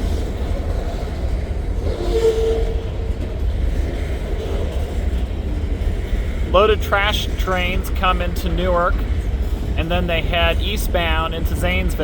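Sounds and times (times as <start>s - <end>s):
freight train rumbling on rails: 0.0s - 12.0s.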